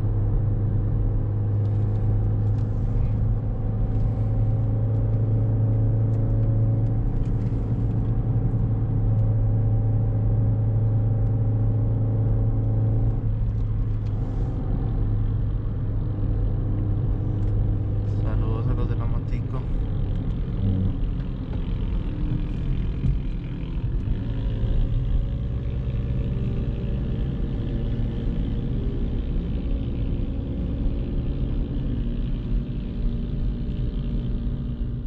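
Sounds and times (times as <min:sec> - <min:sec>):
car engine humming: 0:00.0 - 0:35.0.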